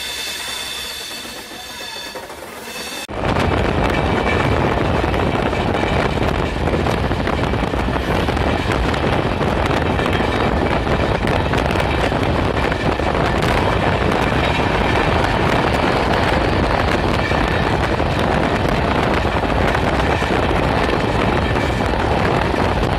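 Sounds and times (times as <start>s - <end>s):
train wheels rumbling on rails: 0.0s - 22.9s
wind buffeting microphone: 3.0s - 22.9s.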